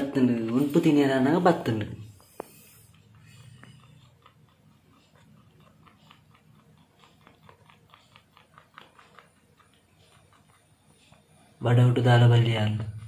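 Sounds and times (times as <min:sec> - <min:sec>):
rabbit nibbling clicks: 0:00.0 - 0:13.0.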